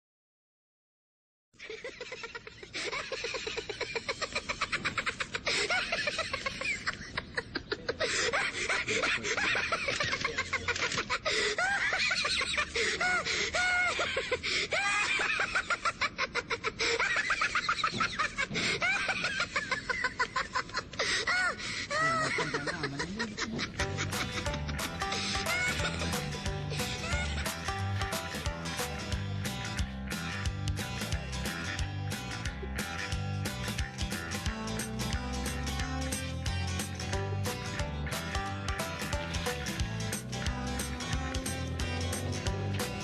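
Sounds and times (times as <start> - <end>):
people laughing and snickering: 1.6 - 43.0.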